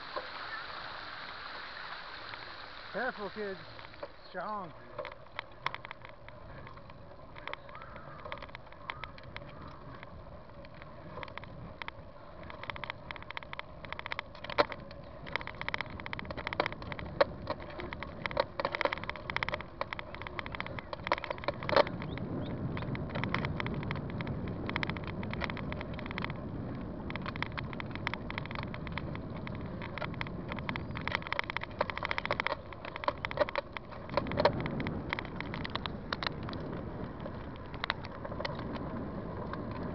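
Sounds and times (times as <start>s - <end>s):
bicycle tyres on pavement: 0.0s - 39.9s
sharp clicks and rattles: 2.3s - 39.9s.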